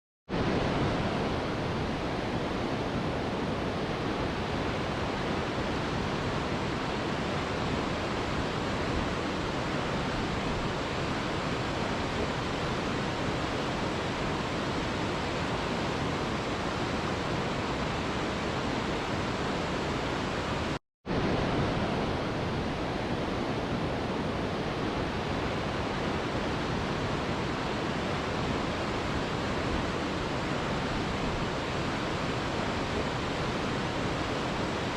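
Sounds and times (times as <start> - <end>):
river rushing: 0.3 - 34.9.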